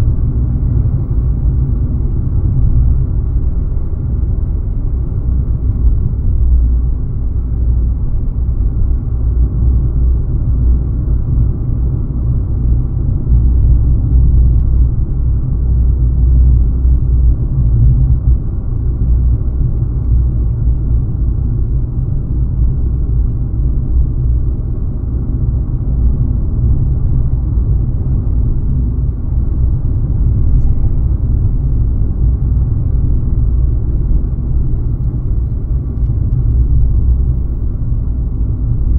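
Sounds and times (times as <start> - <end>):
car driving low rumble: 0.0 - 38.9.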